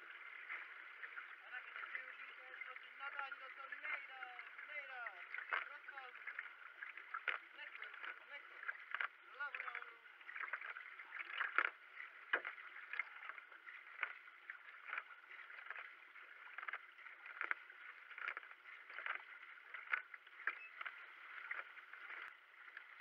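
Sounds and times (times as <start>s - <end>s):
paddle strokes splashing: 0.0s - 23.0s.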